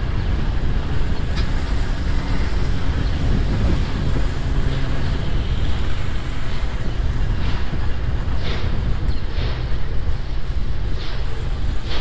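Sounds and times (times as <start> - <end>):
city street traffic: 0.0 - 12.0
wind rumbling on microphone: 0.0 - 12.0.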